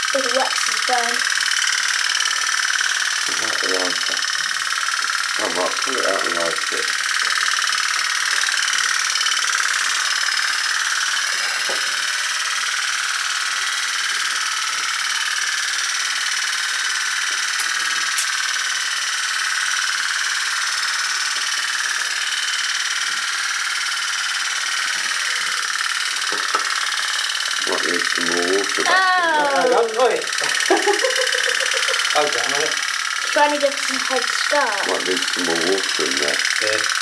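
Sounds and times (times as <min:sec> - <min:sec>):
pop-pop boat diaphragm buzzing: 0:00.0 - 0:37.0.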